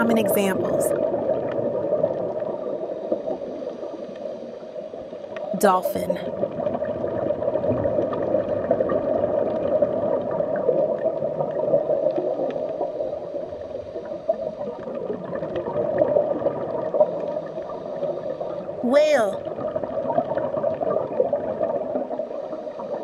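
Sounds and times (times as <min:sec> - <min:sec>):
underwater bubbling water: 0:00.0 - 0:05.5, 0:06.2 - 0:18.8, 0:19.4 - 0:23.0.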